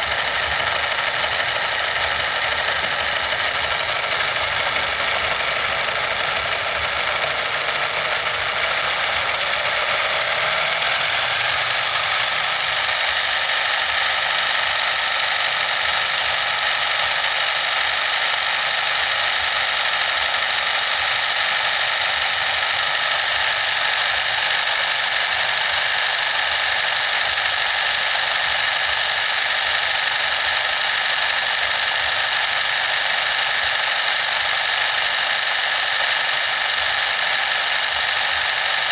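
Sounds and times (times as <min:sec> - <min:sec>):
small motor whirring: 0:00.0 - 0:38.9.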